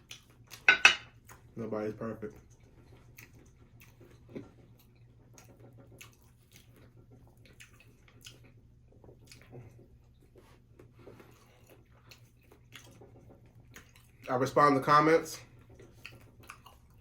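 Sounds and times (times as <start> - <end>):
wet chewing and mouth clicks: 0.0 - 1.6, 2.4 - 14.4, 15.5 - 17.0.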